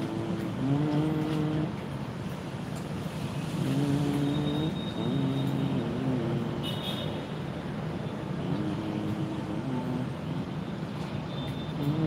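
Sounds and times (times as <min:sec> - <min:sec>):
vehicle engines revving: 0:00.0 - 0:12.0.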